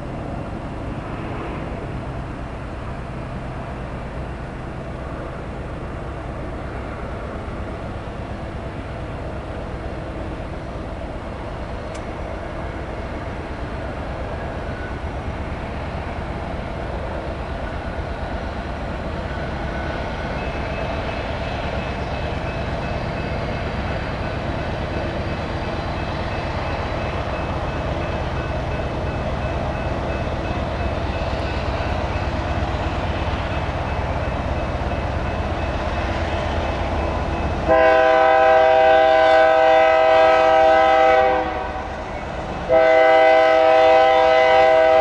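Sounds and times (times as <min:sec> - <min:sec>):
freight train rumbling: 0:00.0 - 0:45.0.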